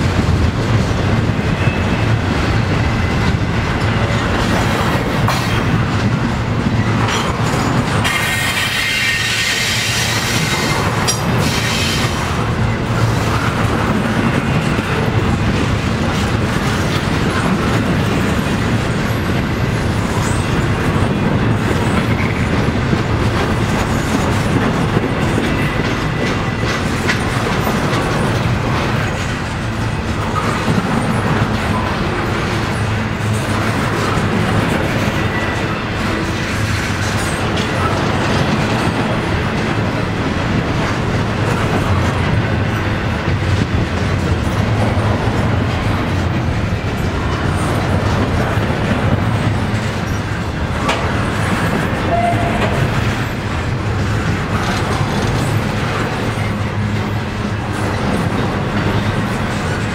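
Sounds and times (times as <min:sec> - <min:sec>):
train wheels rumbling and clicking: 0:00.0 - 0:59.9.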